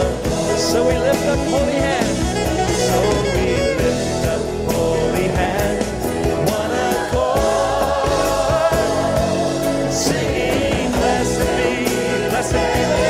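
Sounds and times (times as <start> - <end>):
gospel singing: 0.0 - 13.0
instrumental backing: 0.0 - 13.0.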